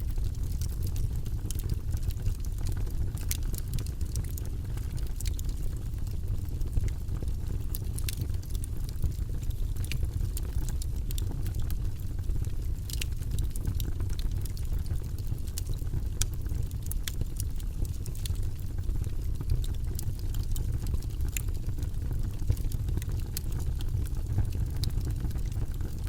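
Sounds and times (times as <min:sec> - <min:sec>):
campfire crackling: 0:00.0 - 0:26.0
low rumble of burning: 0:00.0 - 0:26.0.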